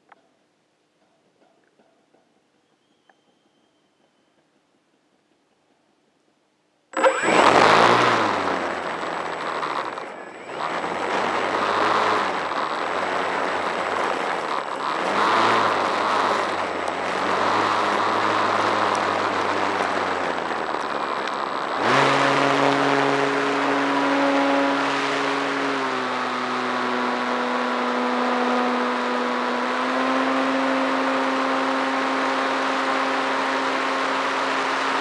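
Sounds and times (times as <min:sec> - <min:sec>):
drone propellers whining: 0:07.0 - 0:35.0.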